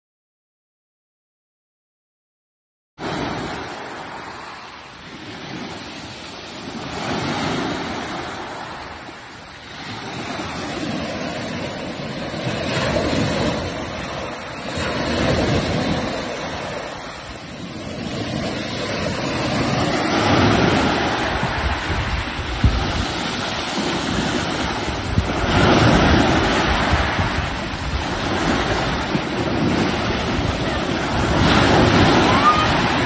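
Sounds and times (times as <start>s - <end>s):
ocean surf breaking on shore: 3.0s - 33.0s.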